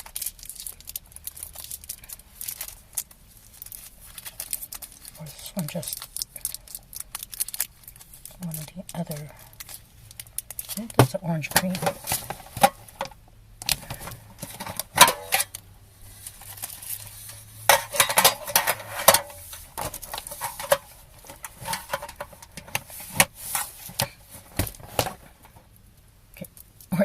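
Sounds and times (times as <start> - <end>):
cellophane wrappers crinkling: 0.0 - 13.1, 13.7 - 25.6.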